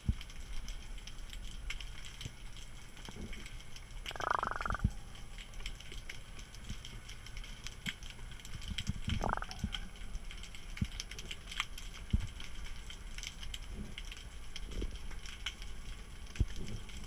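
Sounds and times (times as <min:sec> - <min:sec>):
fine clicks and crackles: 0:00.0 - 0:17.0
underwater low rumble: 0:00.0 - 0:17.0.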